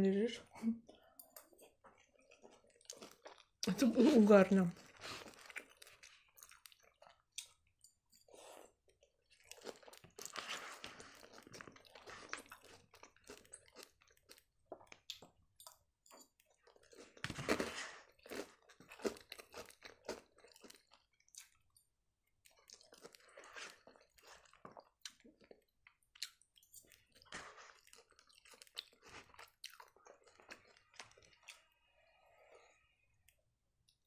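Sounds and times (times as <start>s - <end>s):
close chewing and crunching salad: 0.9s - 34.0s.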